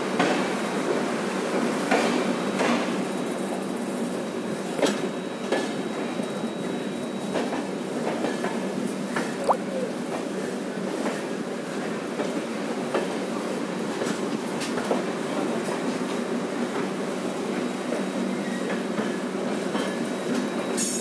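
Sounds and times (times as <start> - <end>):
train wheels rumbling on rail: 0.0 - 9.2, 10.1 - 21.0.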